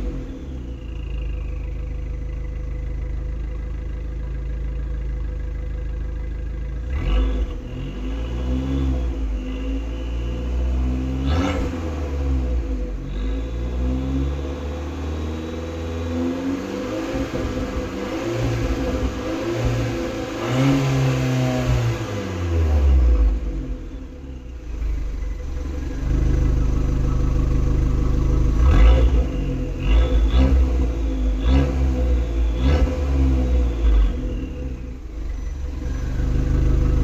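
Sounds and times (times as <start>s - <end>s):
car engine revving: 6.8s - 37.0s.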